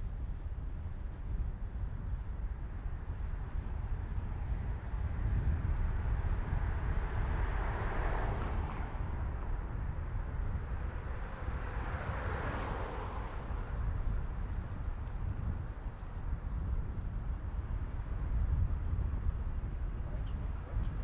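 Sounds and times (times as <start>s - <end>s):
passing vehicles: 0.0s - 21.0s
wind and road noise rumble: 0.0s - 21.0s.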